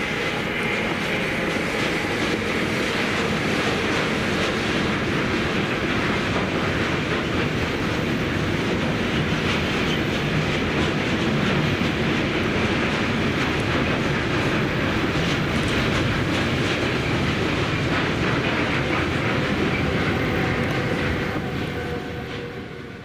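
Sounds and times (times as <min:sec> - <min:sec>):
train wheels clattering on track: 0:00.0 - 0:23.0.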